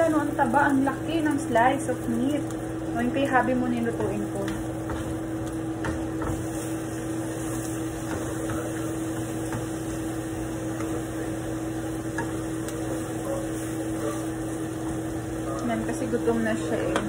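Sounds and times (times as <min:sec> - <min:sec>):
steak sizzling in pan: 0:00.0 - 0:17.0.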